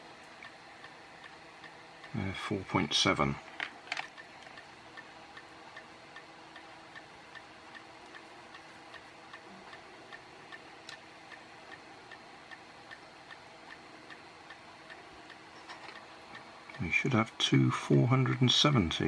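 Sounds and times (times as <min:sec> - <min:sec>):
faint steady ticking: 0:00.0 - 0:19.0.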